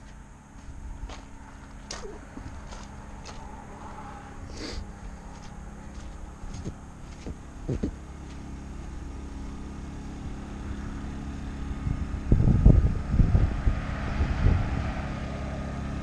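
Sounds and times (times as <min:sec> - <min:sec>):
low machine hum: 0:00.0 - 0:16.0
irregular low rumbling: 0:00.7 - 0:15.4.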